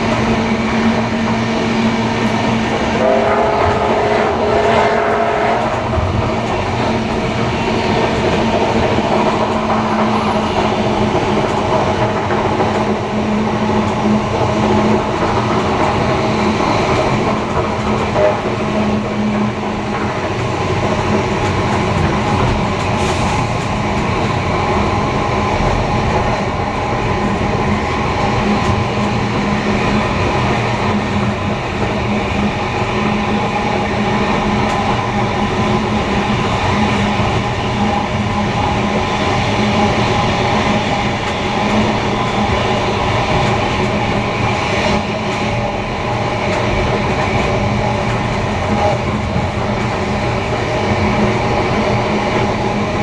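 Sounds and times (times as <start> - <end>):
wheels rumbling on rails: 0.0 - 53.0.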